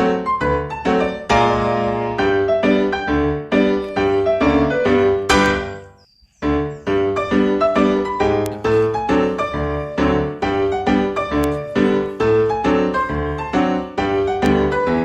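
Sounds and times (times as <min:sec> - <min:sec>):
piano notes in steady rhythm: 0:00.0 - 0:15.0.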